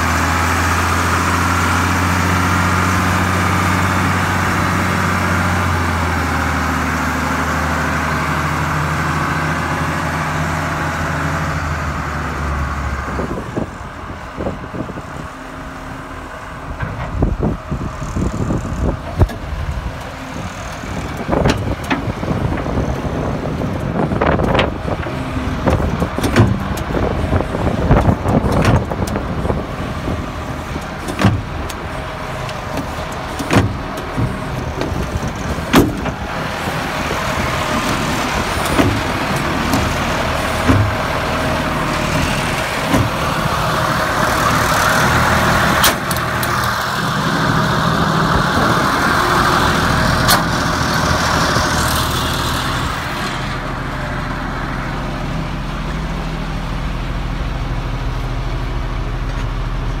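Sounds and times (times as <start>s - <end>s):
diesel engine idling: 0.0s - 60.0s.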